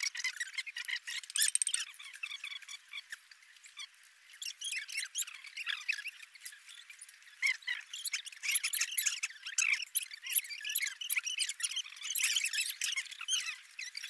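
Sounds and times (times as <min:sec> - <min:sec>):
wet eating clicks and squeaks: 0:00.0 - 0:14.0.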